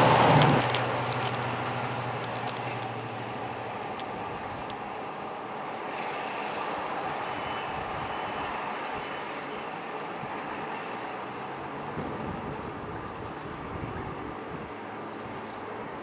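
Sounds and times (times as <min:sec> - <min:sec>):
diesel locomotive engines: 0:00.0 - 0:16.0.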